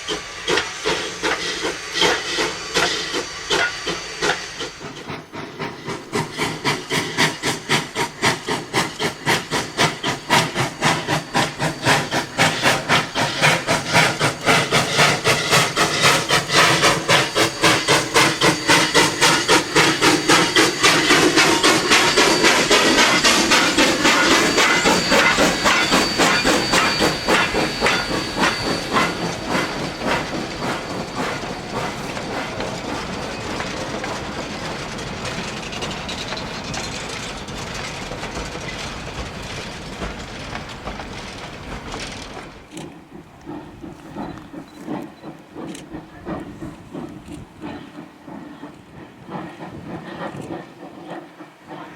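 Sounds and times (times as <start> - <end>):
hissing steam: 0.0 - 51.9
steam locomotive exhaust chuffs: 0.0 - 51.9.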